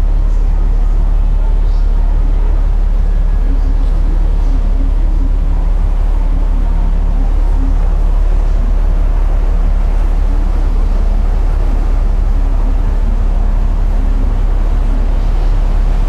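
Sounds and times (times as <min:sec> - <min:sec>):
ferry engines deep rumble: 0:00.0 - 0:16.0.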